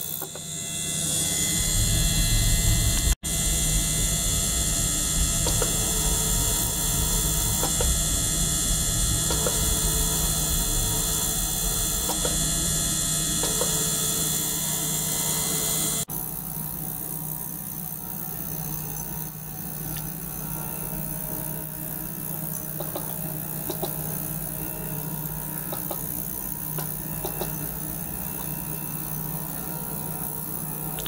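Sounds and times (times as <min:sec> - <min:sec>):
ultrasonic cleaner humming: 0:00.0 - 0:31.0.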